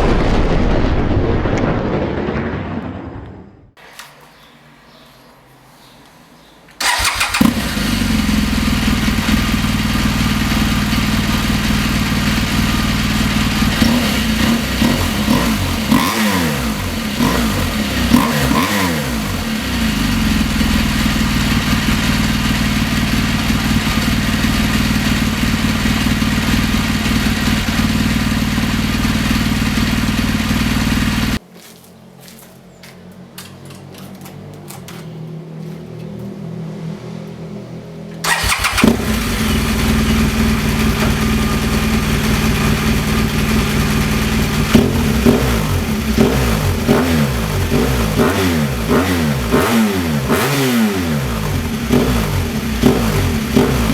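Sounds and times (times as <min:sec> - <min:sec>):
motorcycle engine idling and revving: 0:06.8 - 0:53.9.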